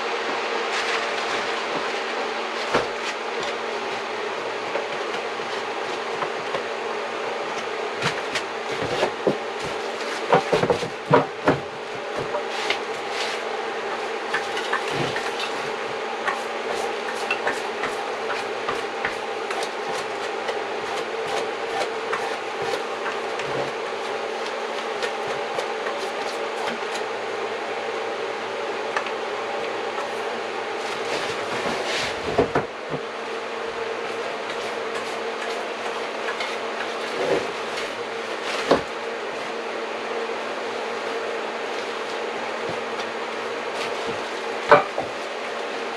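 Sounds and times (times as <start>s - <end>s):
mechanical hum: 0.0s - 45.9s.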